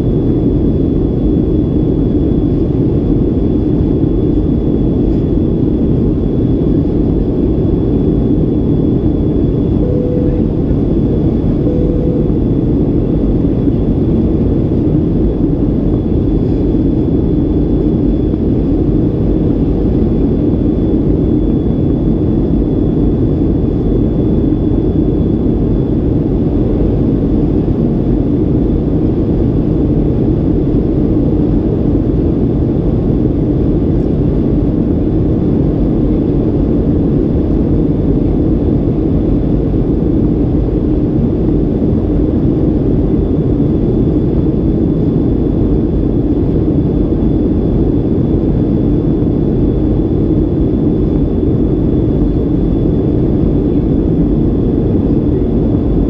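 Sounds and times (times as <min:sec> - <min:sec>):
air rushing along fuselage: 0:00.0 - 0:56.0
faint high whine: 0:00.0 - 0:56.0
jet engines droning: 0:00.0 - 0:56.0.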